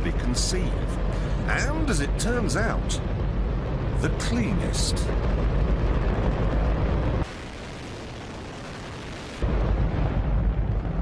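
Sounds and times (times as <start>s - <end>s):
rocket engine roaring: 0.0s - 11.0s.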